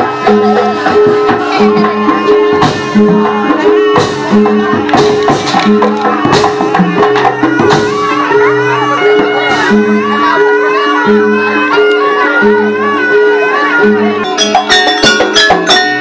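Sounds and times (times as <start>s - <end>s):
gamelan music with drums: 0.0s - 16.0s.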